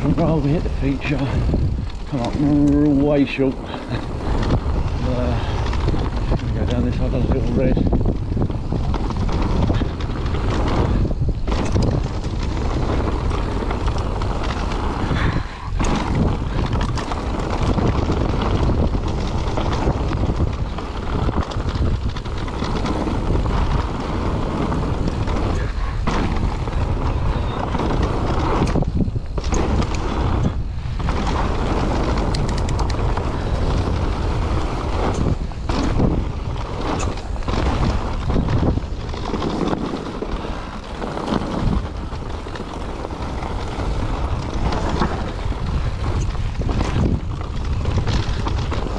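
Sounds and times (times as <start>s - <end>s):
tyre rumble on dirt: 0.0s - 48.9s
wind buffeting microphone: 0.0s - 48.9s.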